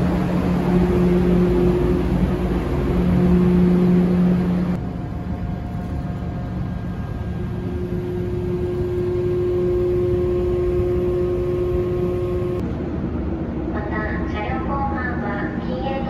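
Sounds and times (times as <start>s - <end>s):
humming tones: 0.0s - 15.6s
ship engines rumbling: 0.0s - 16.0s.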